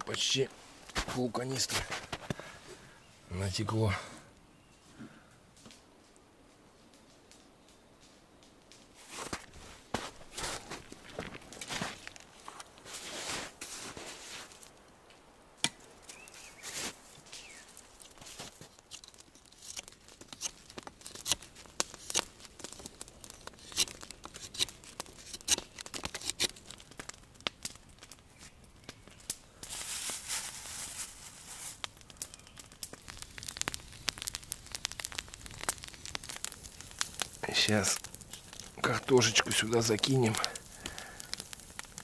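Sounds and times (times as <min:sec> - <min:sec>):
branches snapping: 0:06.9 - 0:13.1, 0:14.4 - 0:42.0.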